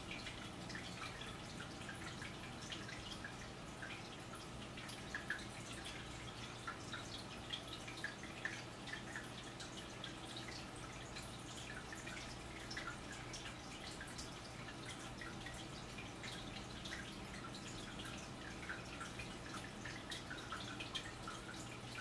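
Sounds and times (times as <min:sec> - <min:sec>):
faint clicks and ticks: 0:00.0 - 0:22.0.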